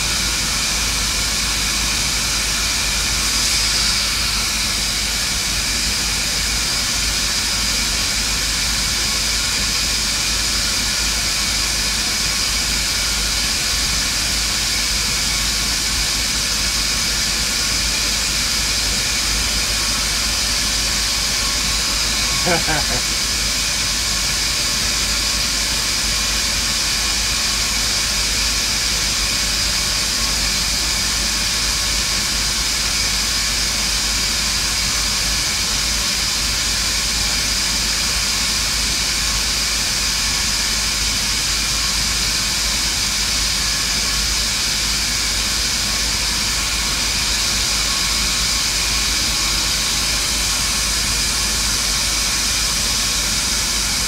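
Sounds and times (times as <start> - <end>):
stick welding hiss: 0.1 - 7.7, 9.7 - 54.0.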